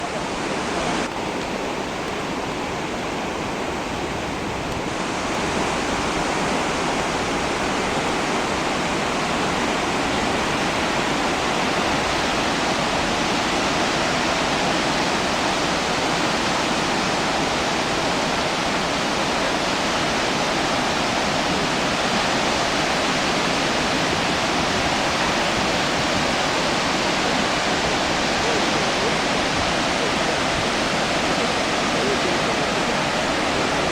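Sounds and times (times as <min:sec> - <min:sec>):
waterfall rushing over rock: 0:00.0 - 0:33.9.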